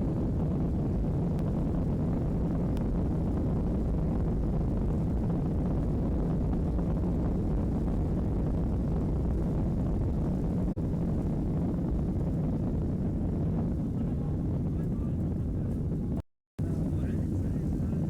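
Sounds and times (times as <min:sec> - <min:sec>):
jet engines rumbling at takeoff: 0:00.0 - 0:18.0.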